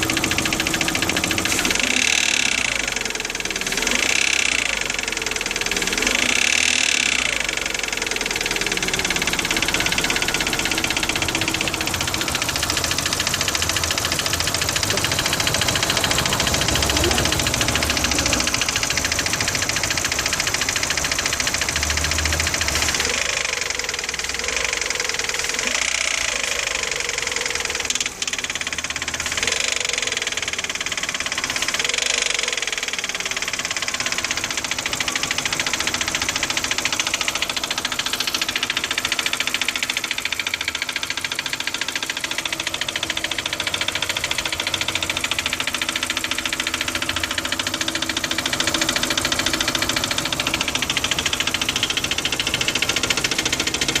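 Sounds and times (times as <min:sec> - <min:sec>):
engine idling with fast knock: 0:00.0 - 0:54.0
engine revving: 0:00.0 - 0:54.0.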